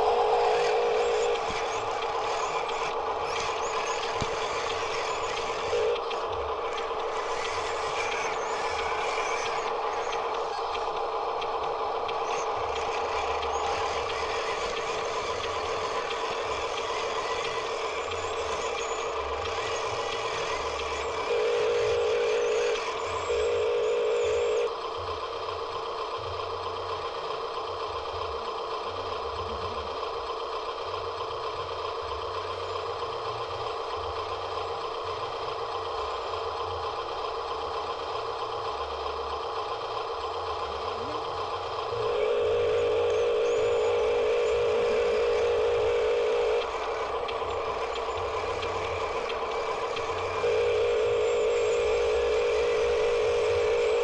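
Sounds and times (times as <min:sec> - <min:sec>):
electronic engine sound effect: 0:00.0 - 0:24.7, 0:32.7 - 0:54.0.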